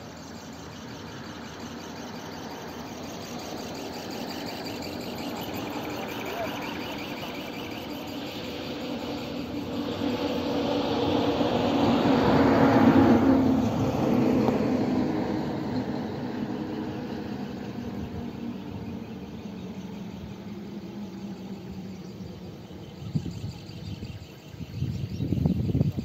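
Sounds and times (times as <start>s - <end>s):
vehicle engine passing by: 1.5s - 24.3s.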